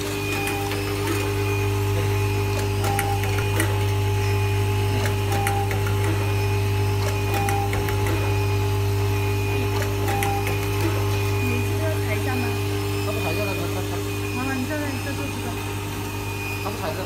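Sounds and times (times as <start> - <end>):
bowl feeder humming: 0.0 - 17.0.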